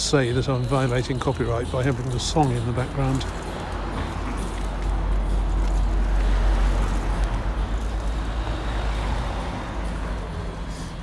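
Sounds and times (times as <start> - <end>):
motor vehicle passing: 0.2 - 11.0.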